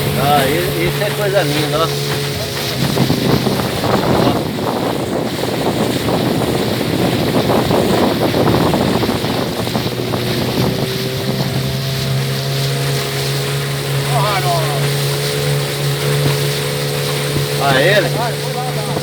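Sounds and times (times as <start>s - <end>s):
boat motor humming: 0.0s - 19.0s
water rushing past hull: 0.0s - 19.0s
wind buffeting microphone: 0.0s - 19.0s.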